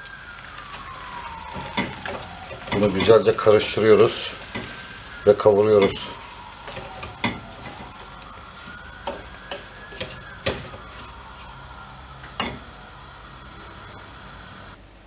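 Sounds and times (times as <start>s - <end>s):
semolina sizzling in butter: 0.0s - 14.8s.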